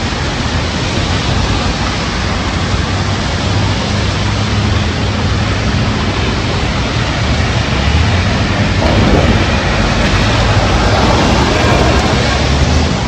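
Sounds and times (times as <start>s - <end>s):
heavy rain: 0.0s - 13.0s
strong wind: 0.0s - 13.0s.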